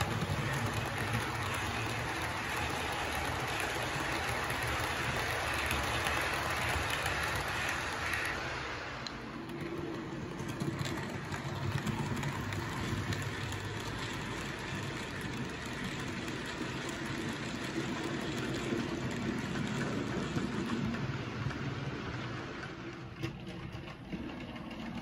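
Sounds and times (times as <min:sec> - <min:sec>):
model train wheels rumbling: 0:00.0 - 0:25.0.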